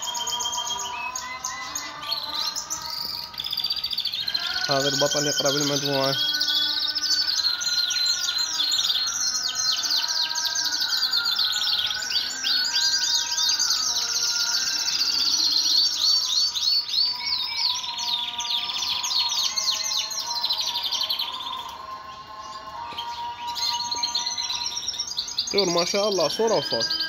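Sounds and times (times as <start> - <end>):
canaries singing: 0.0 - 27.0.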